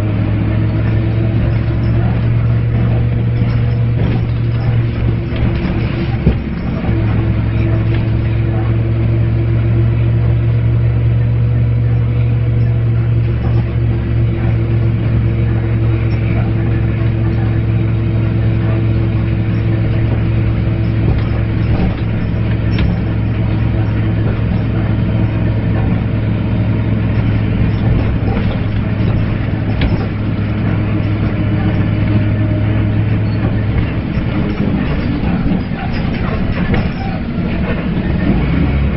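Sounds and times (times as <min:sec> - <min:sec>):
bus engine rumble: 0:00.0 - 0:38.9
low groaning drone: 0:00.0 - 0:38.9.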